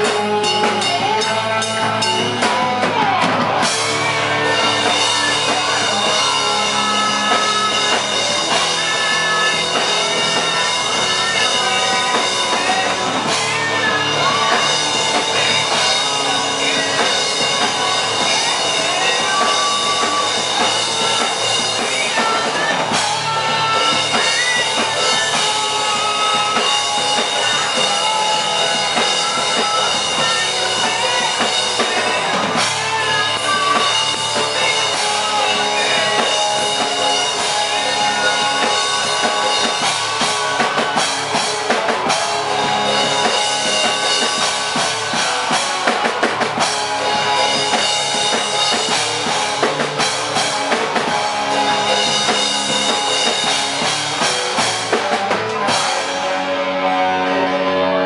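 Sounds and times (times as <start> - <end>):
drum kit: 0.0 - 58.0
guitar ringing: 0.0 - 58.0
live band playing loud: 0.0 - 58.0.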